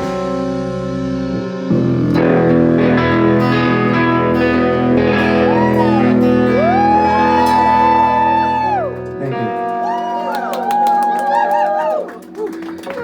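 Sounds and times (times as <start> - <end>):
live band playing: 0.0 - 10.8
guitars ringing sustained chords: 0.0 - 13.0.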